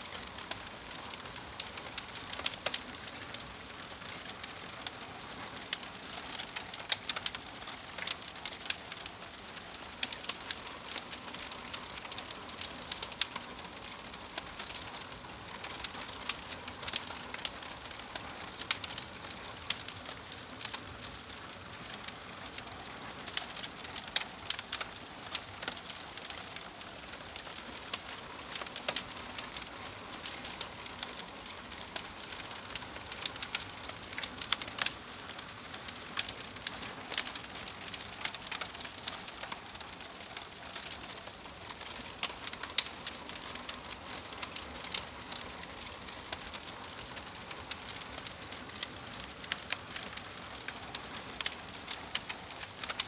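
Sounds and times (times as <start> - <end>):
fire crackling: 0.0 - 53.0.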